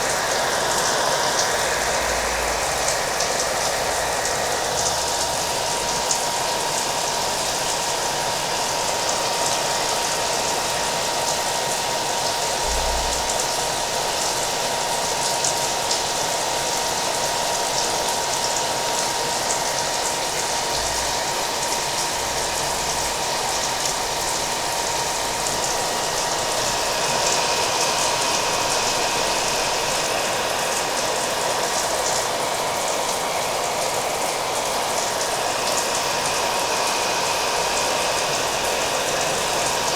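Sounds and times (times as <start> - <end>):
hair dryer running: 0.0 - 12.6, 13.2 - 39.9
steady rain: 0.0 - 39.9.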